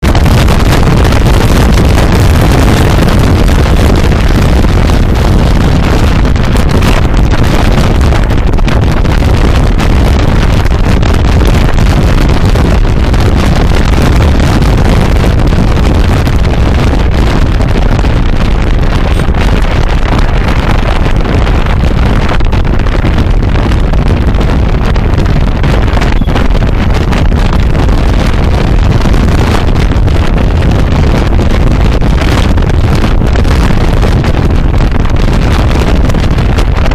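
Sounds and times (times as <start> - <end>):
moving vehicle running noise: 0.0 - 36.9
wind buffeting microphone: 0.0 - 36.9.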